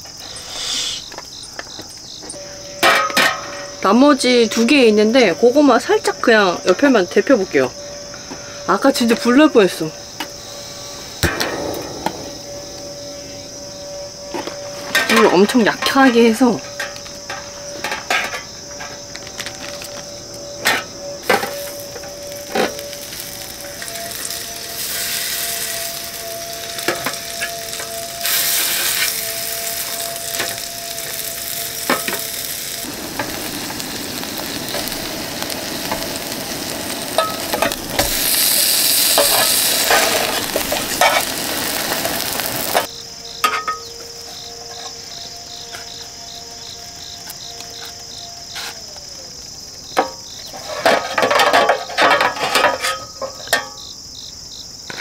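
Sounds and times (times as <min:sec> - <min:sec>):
toast sizzling in a tin: 0:00.0 - 0:07.6, 0:14.5 - 0:49.0, 0:49.9 - 0:54.0.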